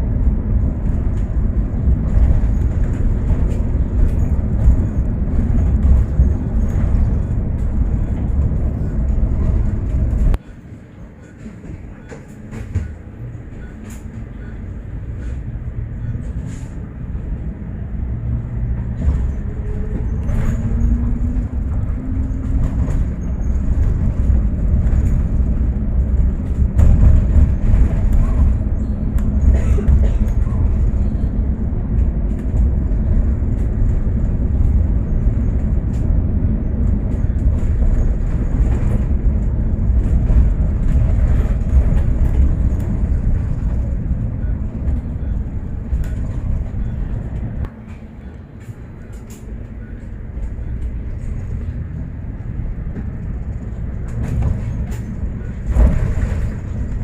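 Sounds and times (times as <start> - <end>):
bus engine and road rumble: 0.0 - 57.0
rattles and clicks: 0.1 - 10.4, 18.7 - 57.0.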